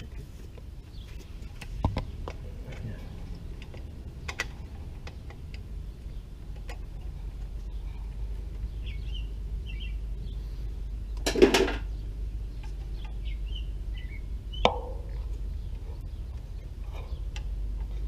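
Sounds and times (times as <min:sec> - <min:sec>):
birds chirping: 0:00.0 - 0:18.0
low steady rumble: 0:00.0 - 0:18.0.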